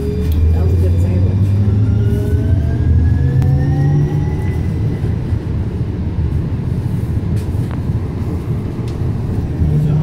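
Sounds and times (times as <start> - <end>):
tram running gear rumble: 0.0 - 10.0.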